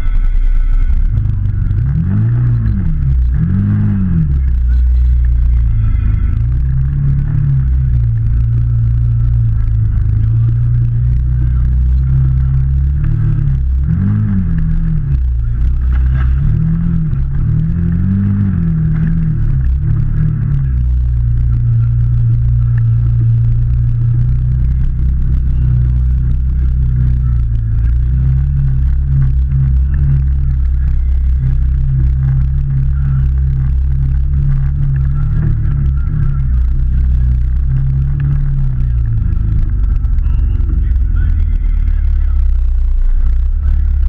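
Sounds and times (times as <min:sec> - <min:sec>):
engine revving under load: 0:00.0 - 0:44.0.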